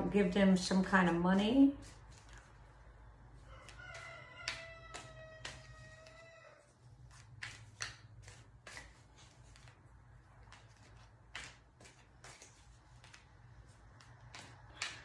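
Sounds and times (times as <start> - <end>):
cards being shuffled: 1.8 - 2.7, 3.6 - 15.0.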